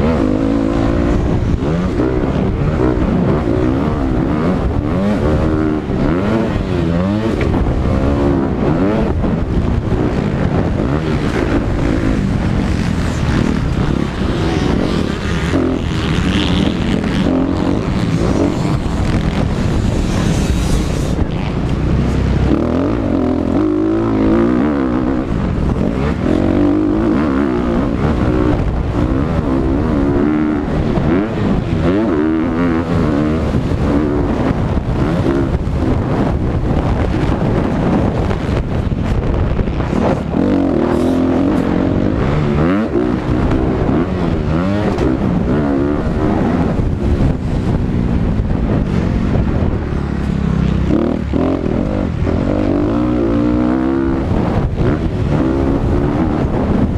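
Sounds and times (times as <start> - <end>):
dirt bike engine revving: 0.0 - 56.9
wind rushing: 0.0 - 56.9.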